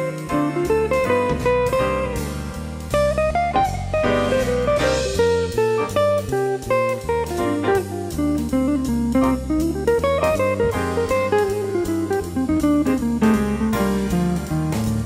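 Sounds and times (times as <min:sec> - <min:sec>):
jazzy guitar and drum music: 0:00.0 - 0:15.0.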